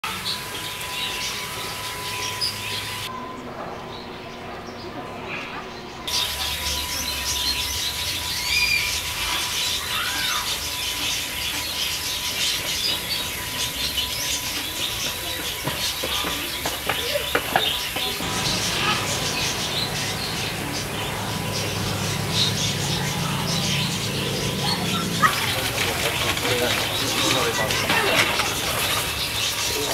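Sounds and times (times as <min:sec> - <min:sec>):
small birds chirping: 0:00.1 - 0:29.9
gliding bird calls: 0:03.8 - 0:29.9.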